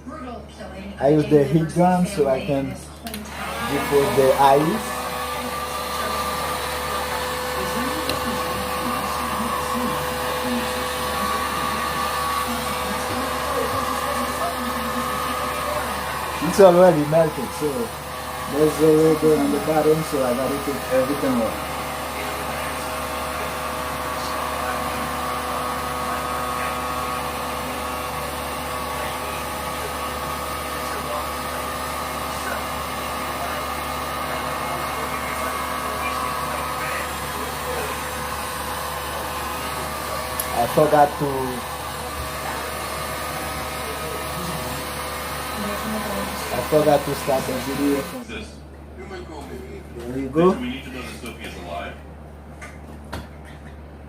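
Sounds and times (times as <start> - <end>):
heat gun fan whining: 0.0 - 54.0.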